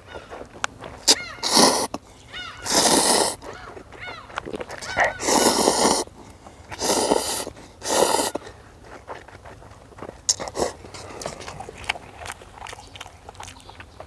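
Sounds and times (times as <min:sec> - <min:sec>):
chewing with wet clicks: 0:00.0 - 0:14.0
noodles slurped: 0:01.0 - 0:03.6, 0:04.5 - 0:14.0.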